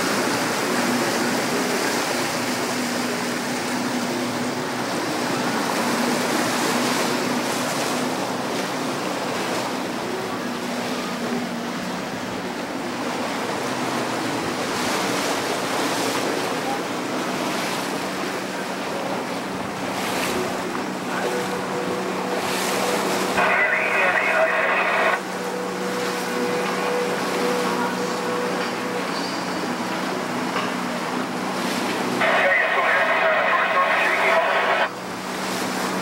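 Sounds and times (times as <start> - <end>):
rush of water and wind: 0.0 - 36.0.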